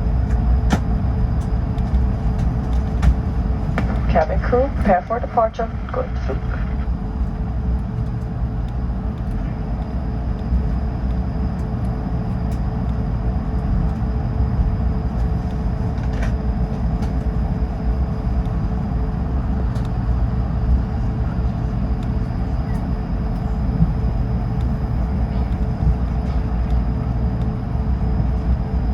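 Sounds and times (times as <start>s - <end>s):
aircraft cabin rumble: 0.0s - 28.9s.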